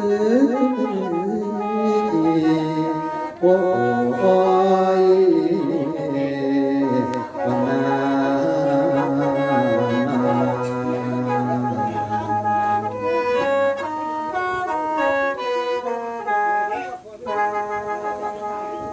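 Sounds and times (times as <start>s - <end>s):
horn-like lead melody: 0.0s - 18.9s
long held bass notes: 0.0s - 18.9s.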